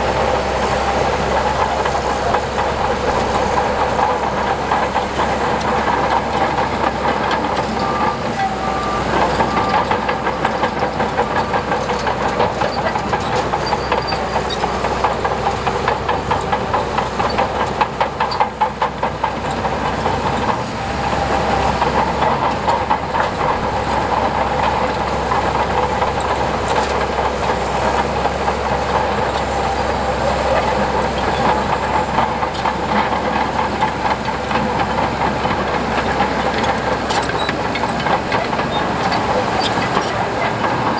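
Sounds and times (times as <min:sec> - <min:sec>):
diesel engine running: 0:00.0 - 0:40.9
metallic clatter of crawler tracks: 0:00.0 - 0:40.9.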